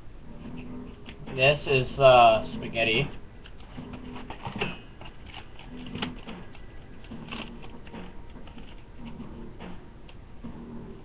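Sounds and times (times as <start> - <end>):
short low hum-like tones: 0.0 - 11.0.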